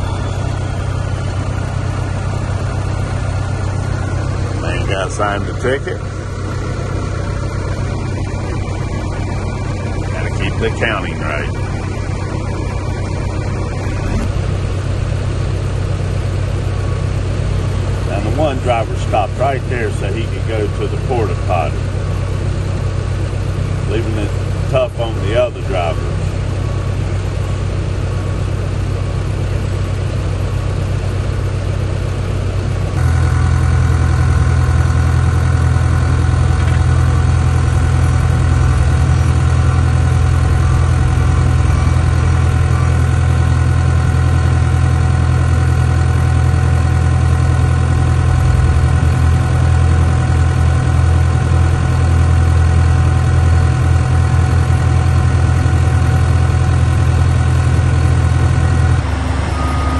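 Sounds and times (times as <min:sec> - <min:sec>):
deep engine hum inside cab: 0:00.0 - 0:59.9
diesel engines idling: 0:00.0 - 0:59.9.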